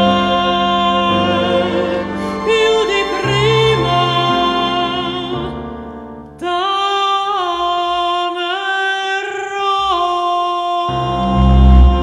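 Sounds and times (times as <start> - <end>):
soprano voice singing: 0.0 - 12.0.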